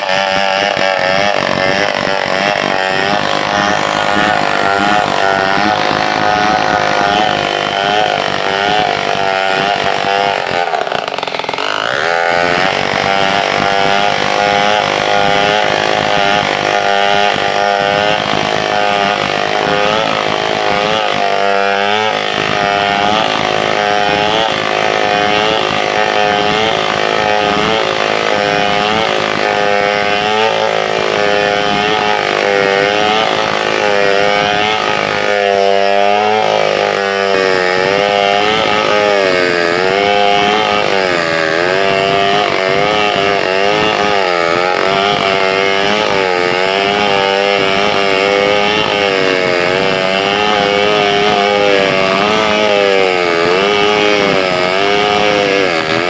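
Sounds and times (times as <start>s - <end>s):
chainsaw cutting a log: 0.0s - 56.0s.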